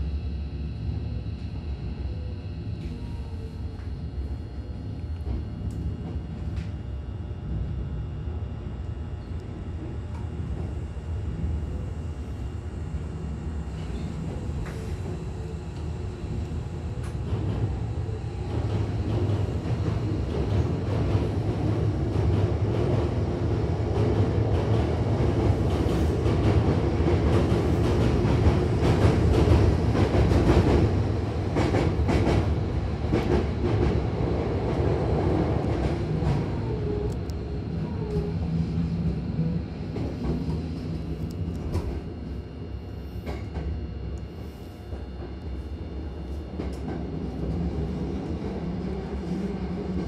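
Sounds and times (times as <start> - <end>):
train low rumble: 0.0 - 50.0.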